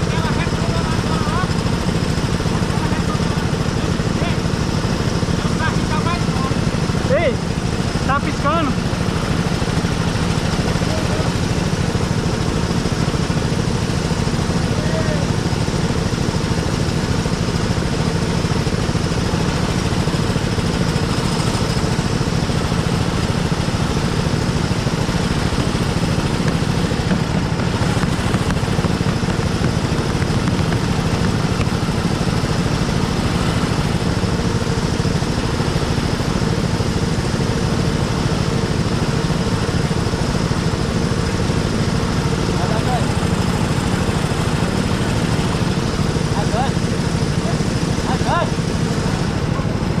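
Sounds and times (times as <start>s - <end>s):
go-kart engine running: 0.0s - 50.0s.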